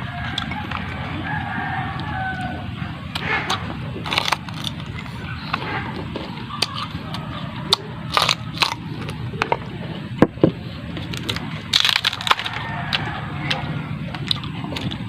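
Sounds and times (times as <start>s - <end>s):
chewing and crunching coconut: 0.0s - 15.0s.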